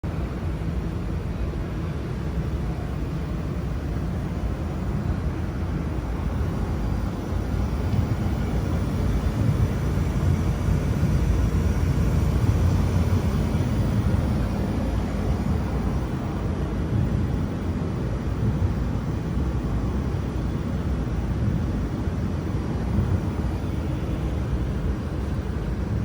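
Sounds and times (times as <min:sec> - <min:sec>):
laser welder rumble and hum: 0:00.1 - 0:26.0.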